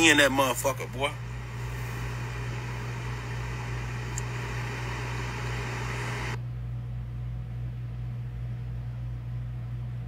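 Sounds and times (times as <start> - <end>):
low hum: 1.1 - 10.0.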